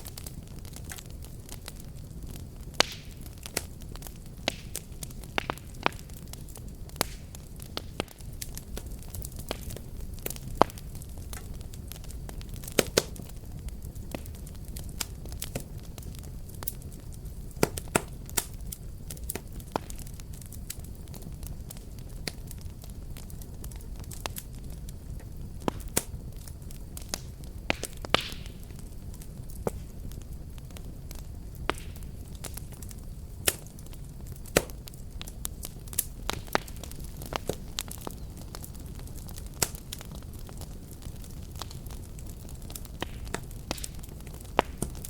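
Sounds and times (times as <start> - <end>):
flames rumbling: 0.0 - 45.0
wood fire crackling: 0.0 - 45.0.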